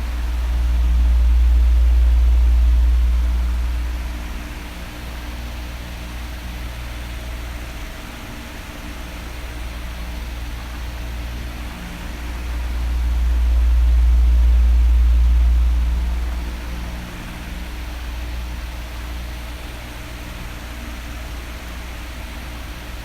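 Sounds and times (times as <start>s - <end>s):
electric fan blowing: 0.0s - 23.0s.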